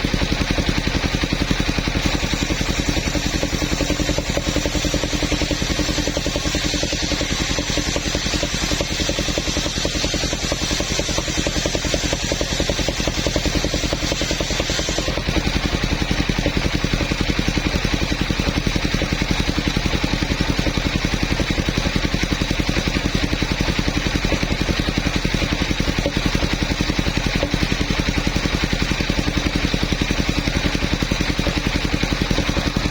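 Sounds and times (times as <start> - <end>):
sawmill engine running: 0.0 - 32.9.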